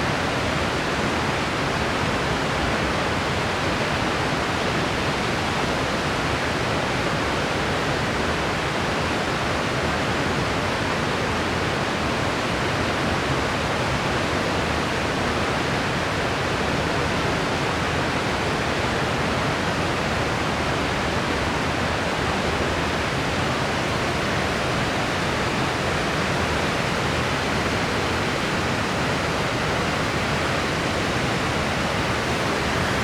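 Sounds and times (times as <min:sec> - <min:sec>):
steady white noise: 0:00.0 - 0:33.0.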